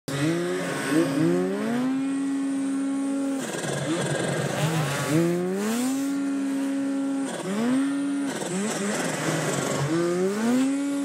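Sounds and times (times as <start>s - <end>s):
snowmobile engine revving: 0.1s - 11.0s.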